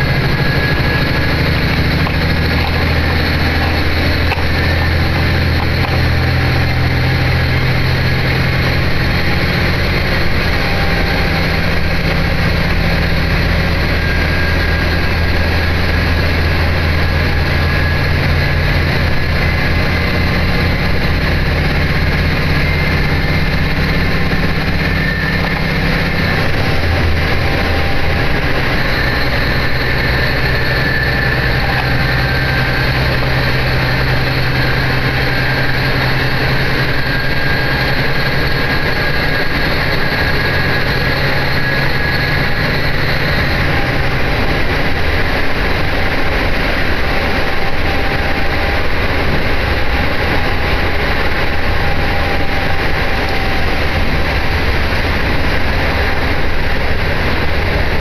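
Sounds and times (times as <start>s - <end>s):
diesel engine drone: 0.0s - 58.0s
rolling train track noise: 0.0s - 58.0s.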